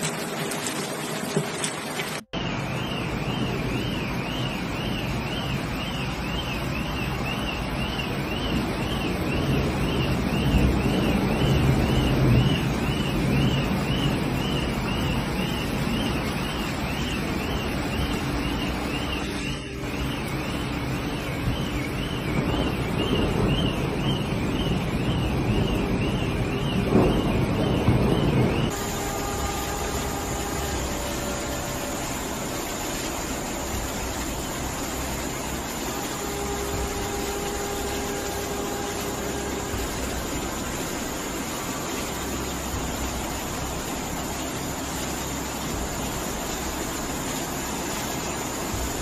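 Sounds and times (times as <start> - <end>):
rain and floodwater rushing: 0.0 - 49.0
car alarm warbling: 2.3 - 46.4.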